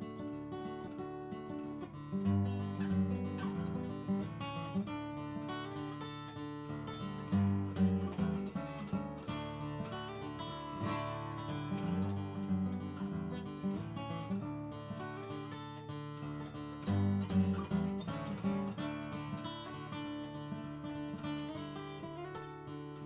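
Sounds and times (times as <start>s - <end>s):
fingerpicked acoustic guitar: 0.0s - 23.0s.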